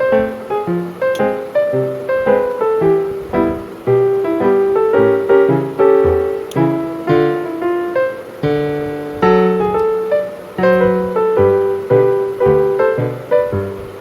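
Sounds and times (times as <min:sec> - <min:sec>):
calm piano music: 0:00.0 - 0:14.0.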